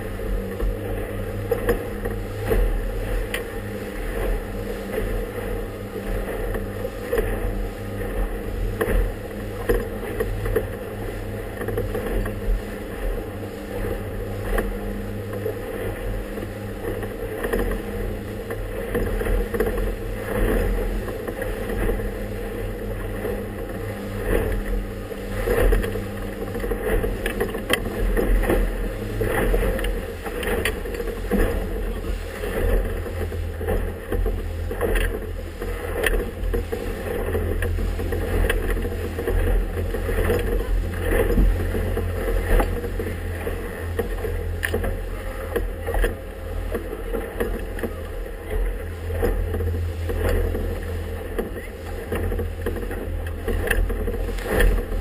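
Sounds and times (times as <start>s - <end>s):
boat motor drone: 0.0s - 55.0s
hull knocking and splashing: 0.0s - 55.0s.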